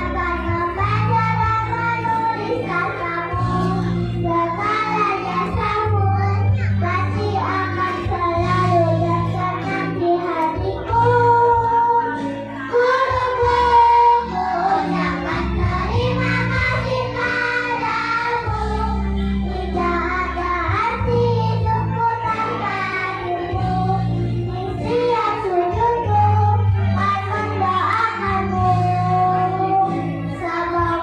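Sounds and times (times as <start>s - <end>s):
backing track music: 0.0s - 31.0s
children's choir singing: 0.0s - 31.0s.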